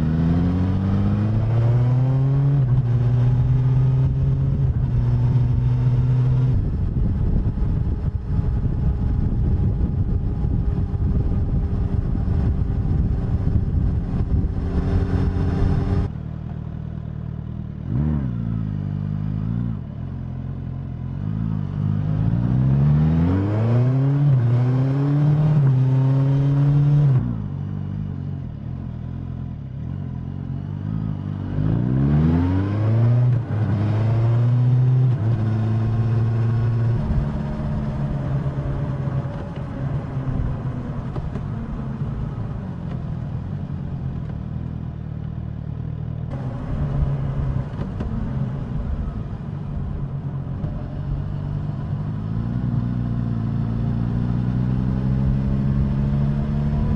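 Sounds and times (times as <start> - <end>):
motorcycle engine and exhaust: 0.0 - 56.9.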